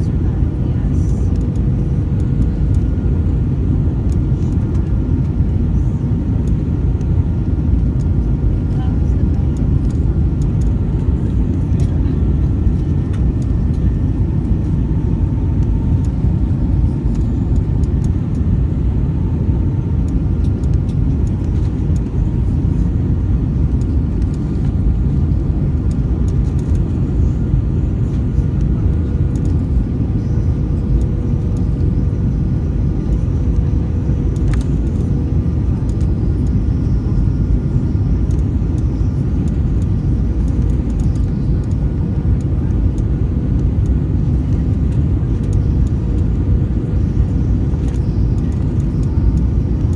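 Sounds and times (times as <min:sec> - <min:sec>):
airflow over fuselage: 0:00.0 - 0:49.9
faint steady hums: 0:00.0 - 0:49.9
jet engine noise: 0:00.0 - 0:49.9.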